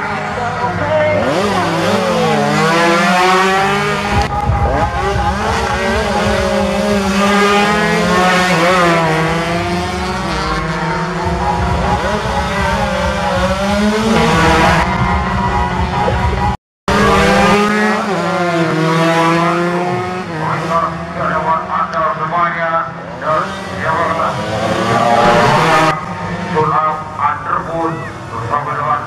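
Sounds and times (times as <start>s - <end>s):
racing motorcycles revving: 0.0s - 29.0s.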